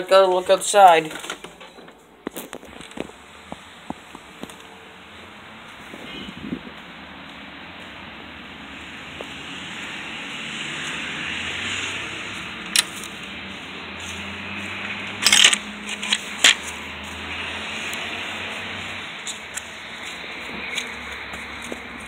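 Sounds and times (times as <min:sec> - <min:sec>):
vehicle engine hum: 0:01.4 - 0:22.0.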